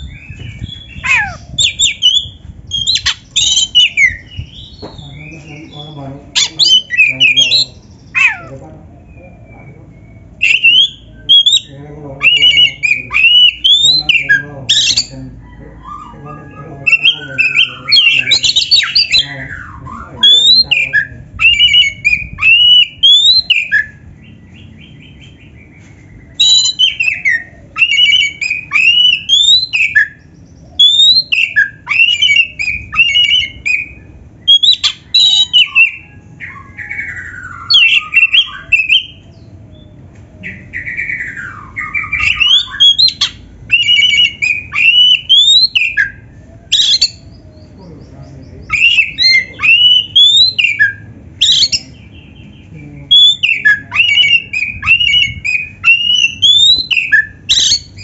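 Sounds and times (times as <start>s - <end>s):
bird singing whistles and trills: 0.0s - 8.4s, 9.0s - 58.0s
faint low hum: 0.0s - 58.0s.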